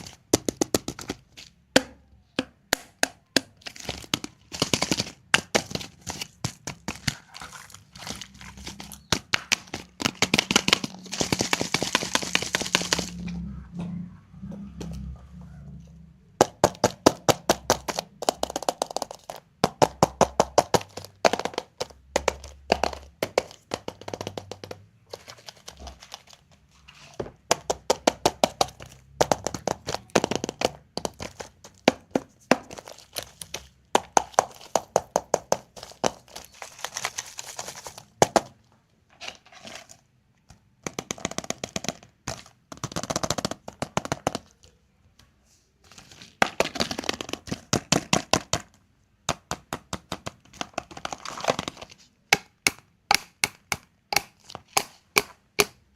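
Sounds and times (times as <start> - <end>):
plastic eggs cracking open: 0.0 - 13.3, 16.4 - 38.6, 45.9 - 55.8.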